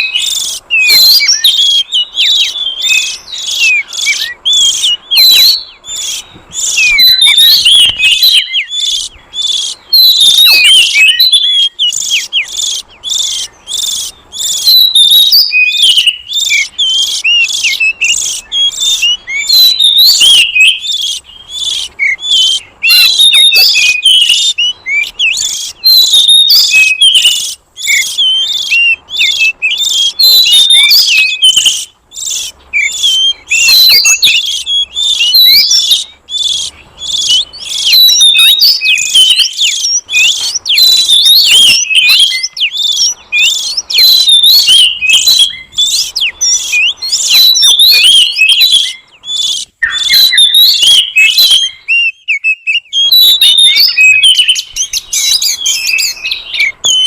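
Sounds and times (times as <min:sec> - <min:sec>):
bird singing whistles and chirps: 0:00.0 - 0:57.0.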